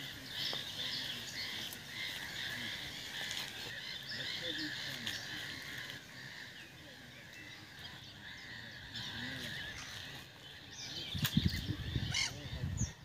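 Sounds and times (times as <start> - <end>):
frogs croaking: 0.0 - 10.7
birds chirping: 0.0 - 13.0.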